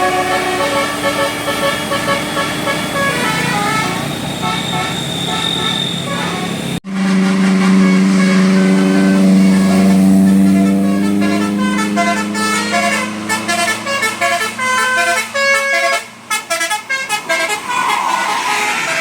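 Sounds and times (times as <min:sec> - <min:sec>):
horn melody of short notes: 0:00.0 - 0:19.0
long low bus horn note: 0:00.0 - 0:19.0.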